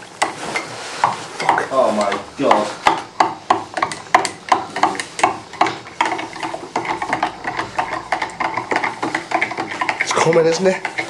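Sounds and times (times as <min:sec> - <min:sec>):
utensil stirring gravy in a pan: 0:00.0 - 0:11.0.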